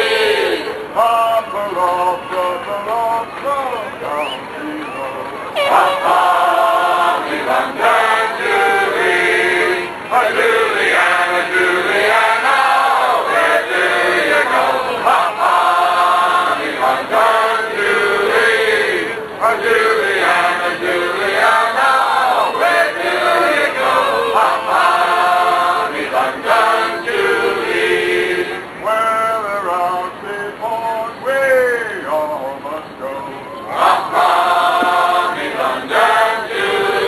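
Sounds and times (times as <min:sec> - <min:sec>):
male voices singing in chorus: 0:00.0 - 0:37.0.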